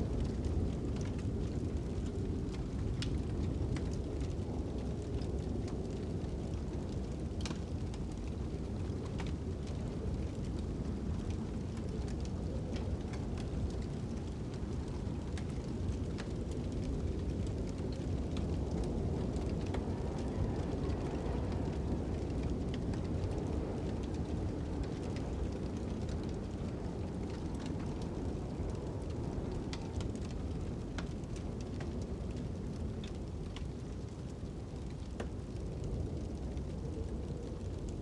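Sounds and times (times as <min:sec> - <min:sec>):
fire crackling and popping: 0:00.0 - 0:38.0
low wind rumble: 0:00.0 - 0:38.0.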